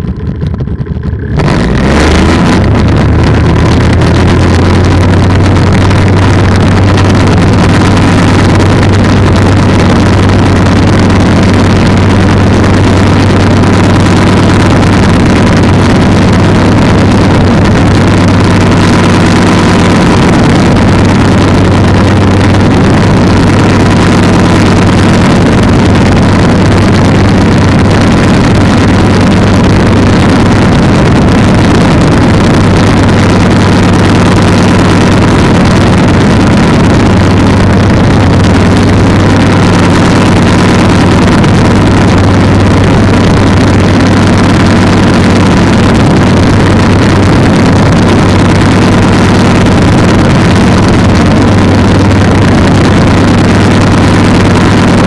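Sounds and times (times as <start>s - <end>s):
two-stroke engine droning: 0.0s - 55.0s.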